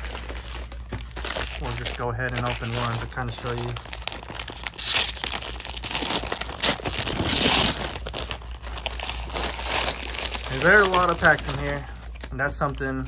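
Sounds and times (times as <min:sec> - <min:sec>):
foil wrapper tearing and crinkling: 0:00.0 - 0:13.0.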